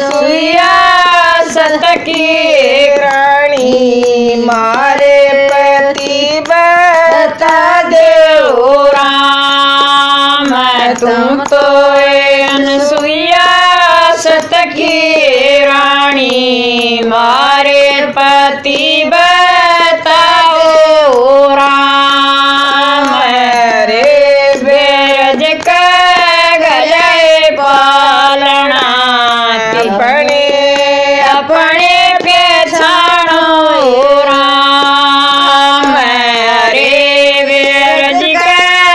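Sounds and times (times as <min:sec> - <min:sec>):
women singing devotional song: 0:00.0 - 0:38.9.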